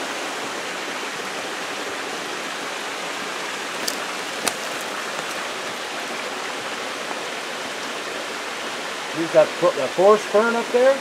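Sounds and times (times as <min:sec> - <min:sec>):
creek flowing over rocks: 0:00.0 - 0:11.0.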